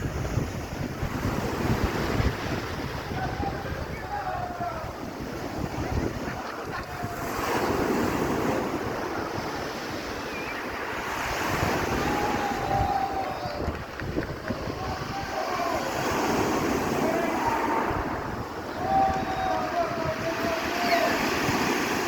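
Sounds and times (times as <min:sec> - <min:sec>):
stormy sea surf: 0:00.0 - 0:22.0
wind buffeting microphone: 0:00.0 - 0:22.0.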